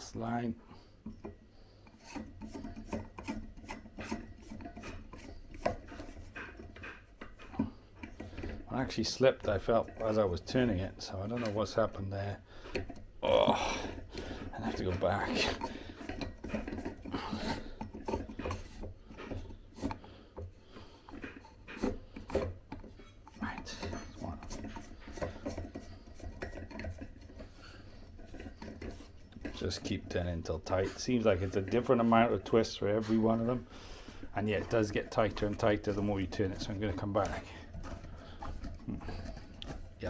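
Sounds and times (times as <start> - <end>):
metal table leg scraping: 1.2 - 13.1, 13.9 - 40.0.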